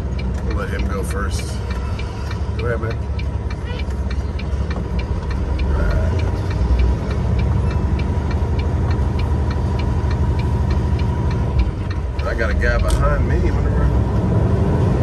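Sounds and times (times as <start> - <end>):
turn-signal flasher ticking: 0.0 - 14.3
truck diesel engine rumble: 0.0 - 15.0.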